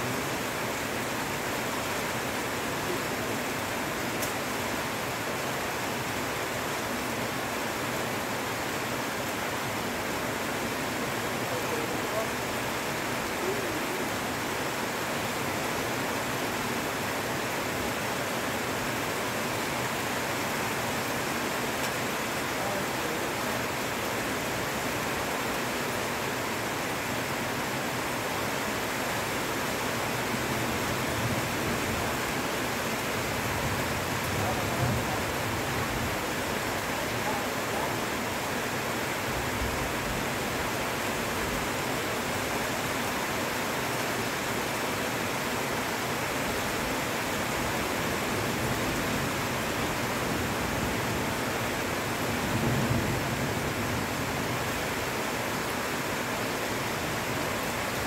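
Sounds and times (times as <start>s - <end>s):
heavy rain on foliage: 0.0s - 58.0s.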